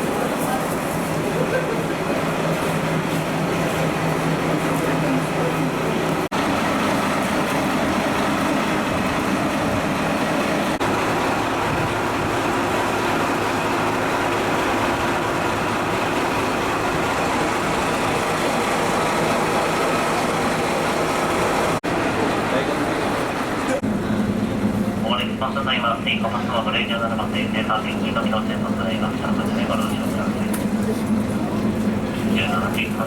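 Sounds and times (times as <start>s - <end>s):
diesel engine rumbling: 0.0s - 33.0s.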